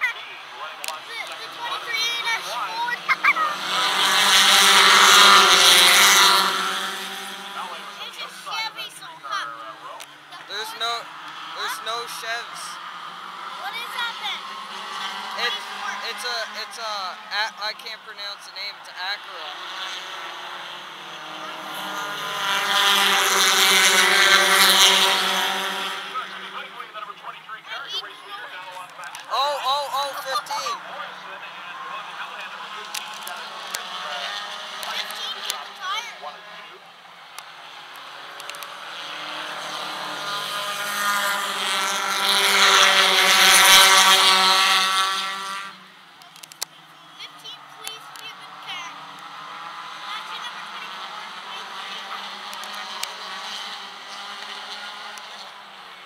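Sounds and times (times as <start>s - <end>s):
racing car engines: 0.0s - 56.0s
car passing close by: 0.2s - 46.0s, 46.8s - 56.0s.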